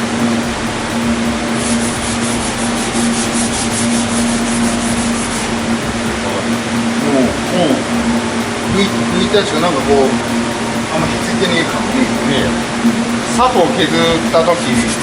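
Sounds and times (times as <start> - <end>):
hand sanding strokes: 0.0 - 15.0
steady hum: 0.0 - 15.0.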